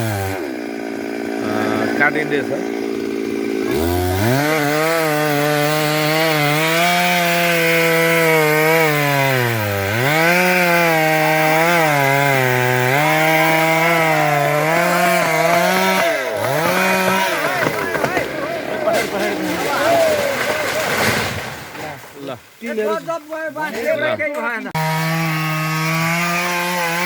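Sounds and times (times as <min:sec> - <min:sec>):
chainsaw cutting wood: 0:00.0 - 0:21.8, 0:24.7 - 0:27.0.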